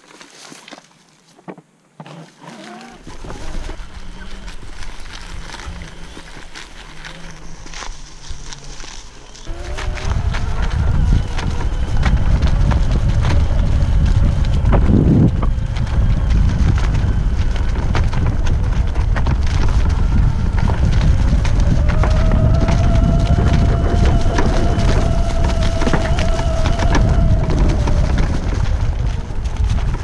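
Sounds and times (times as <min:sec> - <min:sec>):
scooter frame rattling: 0:02.1 - 0:30.0
electric motor whine: 0:03.0 - 0:30.0
wind buffeting microphone: 0:03.0 - 0:30.0.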